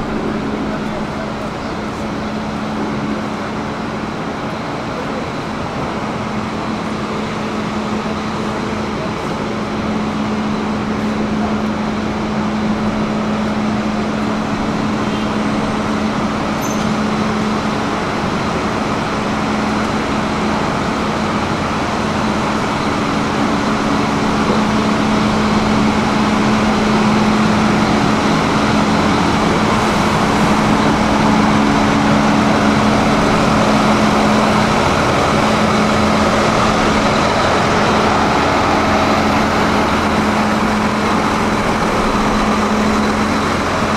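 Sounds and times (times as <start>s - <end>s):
bus engines humming: 0.0s - 43.9s.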